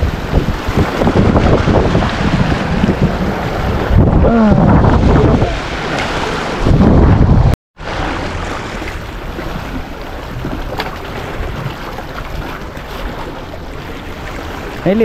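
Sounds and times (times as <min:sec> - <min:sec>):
wind on microphone: 0:00.0 - 0:14.8
surf splashing against rocks: 0:00.0 - 0:15.0.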